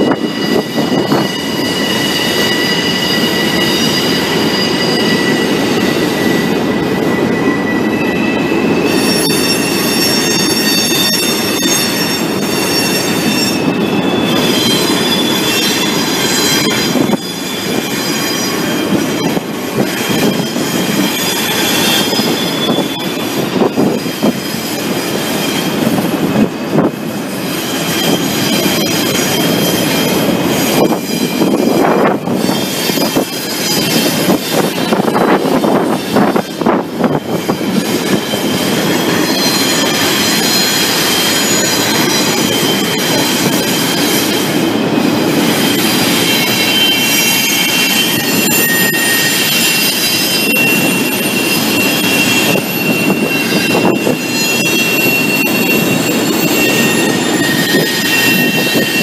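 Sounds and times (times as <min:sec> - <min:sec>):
freight cars rumbling on rails: 0:00.0 - 0:59.0
high wheel squeal: 0:00.0 - 0:59.0.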